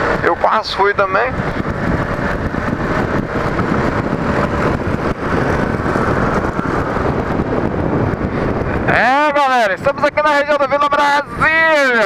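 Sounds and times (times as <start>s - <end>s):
motorcycle engine running: 0.0s - 10.5s
road and wind noise: 0.0s - 12.0s.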